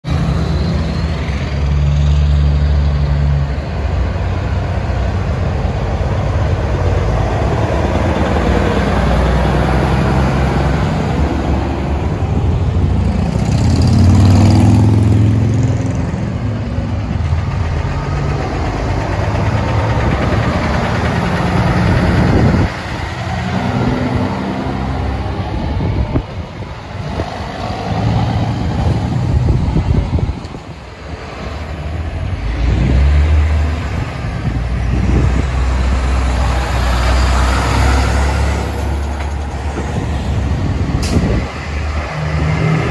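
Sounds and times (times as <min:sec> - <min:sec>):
diesel truck engines passing: 0:00.0 - 0:42.9.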